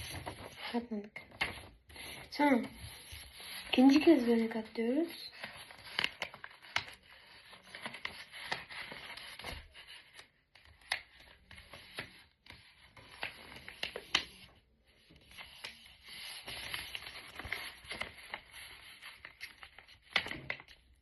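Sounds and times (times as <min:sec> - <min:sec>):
paper rustling and folding: 0:00.0 - 0:21.0.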